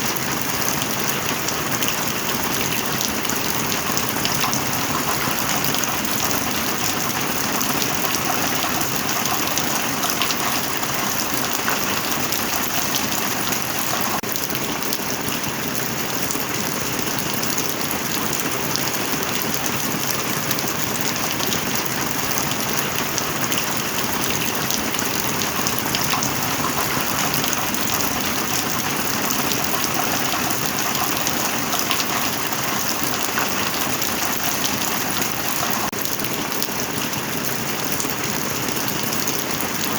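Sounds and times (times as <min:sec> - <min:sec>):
heavy rain falling: 0:00.0 - 0:39.9
raindrops pattering on a surface: 0:00.0 - 0:39.9.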